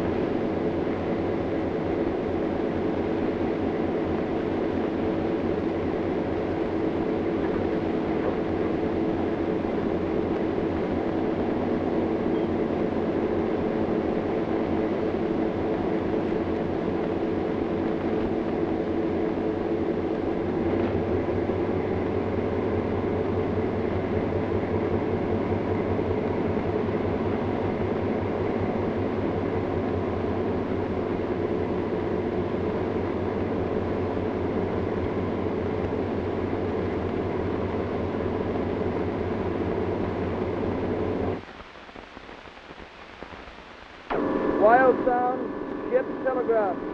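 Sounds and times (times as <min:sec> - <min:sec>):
tugboat engine drone: 0:00.0 - 0:41.8, 0:43.9 - 0:46.9.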